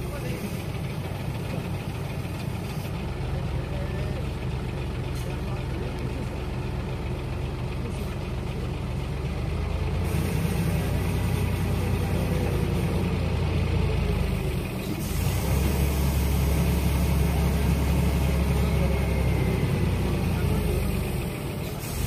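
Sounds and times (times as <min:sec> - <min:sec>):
crane diesel engine running: 0:00.0 - 0:22.0.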